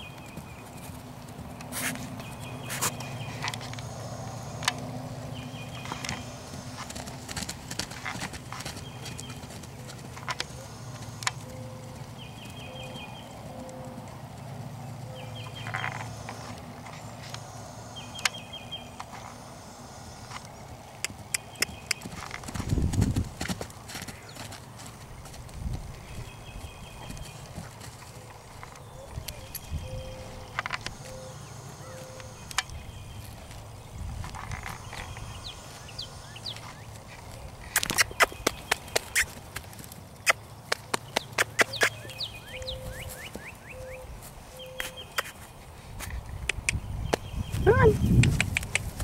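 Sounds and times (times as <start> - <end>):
hoofbeats on grass: 0.0 - 49.0.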